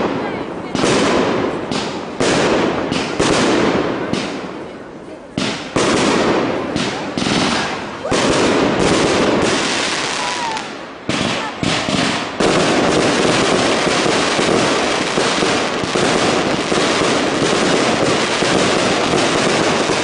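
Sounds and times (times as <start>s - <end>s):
fireworks bangs with echo: 0.0s - 20.0s.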